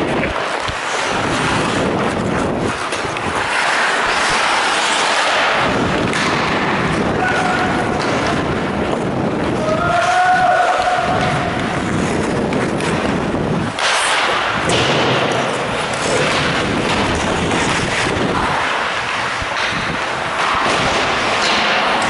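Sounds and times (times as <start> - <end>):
skate blades scraping ice: 0.0 - 22.0
sticks and puck clacking: 0.0 - 22.0.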